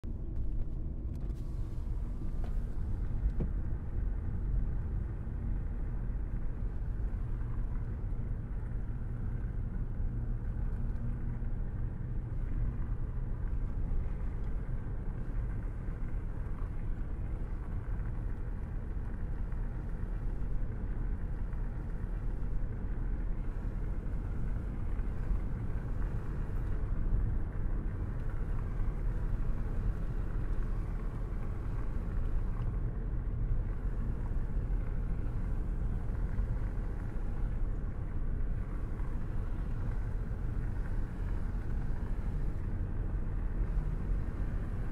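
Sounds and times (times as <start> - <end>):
log splitter motor rumbling: 0.1 - 44.9.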